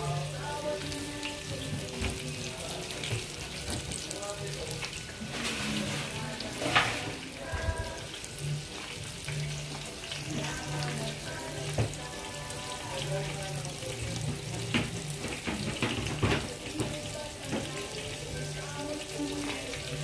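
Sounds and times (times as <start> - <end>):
hot oil sizzling: 0.0 - 20.0.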